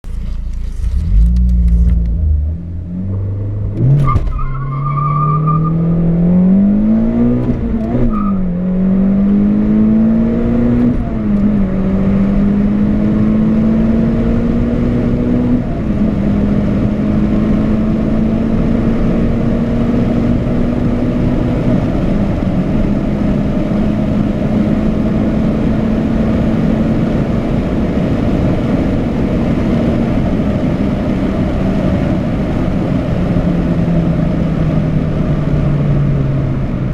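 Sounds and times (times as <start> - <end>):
wind and road noise: 0.0 - 36.9
car engine accelerating hard: 0.1 - 36.9.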